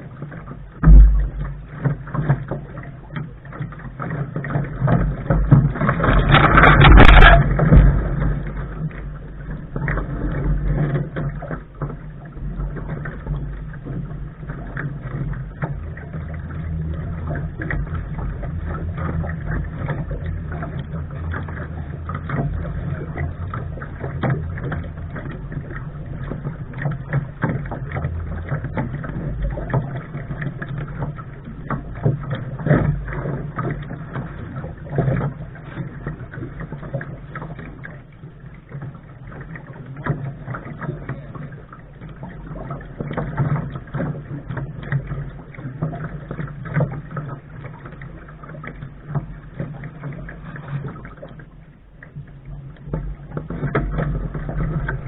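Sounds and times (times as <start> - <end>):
water splashing against hull: 0.0 - 55.0
wind rumbling on microphone: 0.0 - 55.0.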